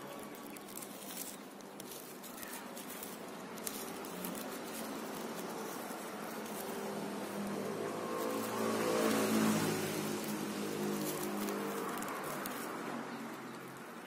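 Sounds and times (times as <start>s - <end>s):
plastic tape crinkling: 0.0s - 14.0s.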